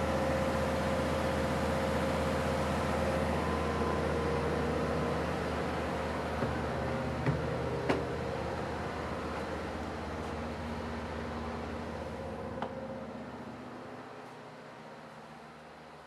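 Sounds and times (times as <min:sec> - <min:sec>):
idling diesel train drone: 0:00.0 - 0:16.0.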